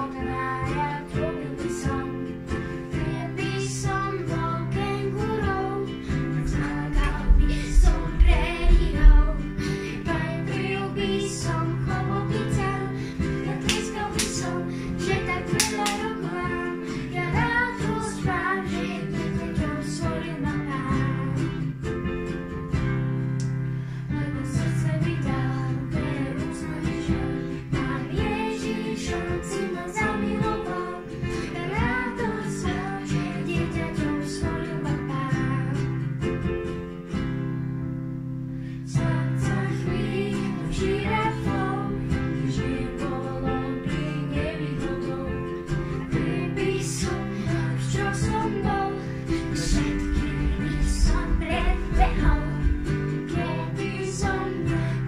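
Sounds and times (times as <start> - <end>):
children and woman singing: 0.0 - 21.9, 24.0 - 36.5, 38.7 - 55.0
piano: 0.0 - 55.0
strummed ukulele: 0.0 - 55.0.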